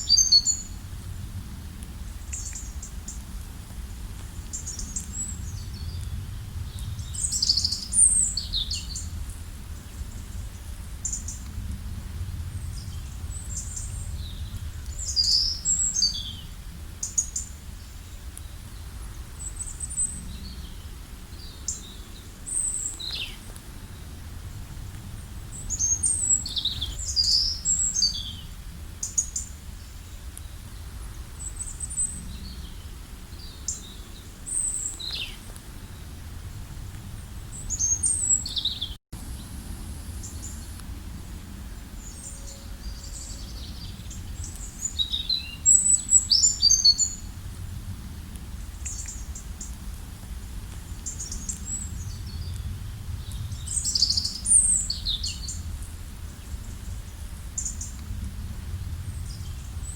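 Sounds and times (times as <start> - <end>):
songbirds chirping: 0.0 - 1.0, 1.6 - 11.7, 12.4 - 59.9
steady low rumble: 0.0 - 17.0, 17.6 - 29.0, 29.6 - 38.4, 47.1 - 59.9.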